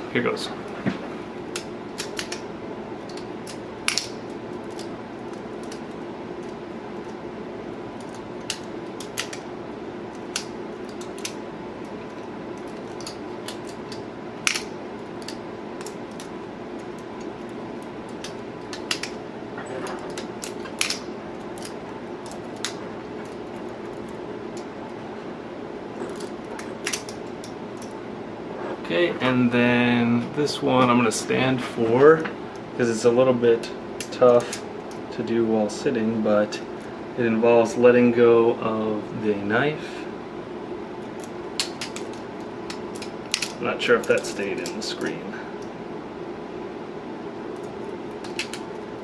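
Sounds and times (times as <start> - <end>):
steady background hum: 0.0 - 49.0.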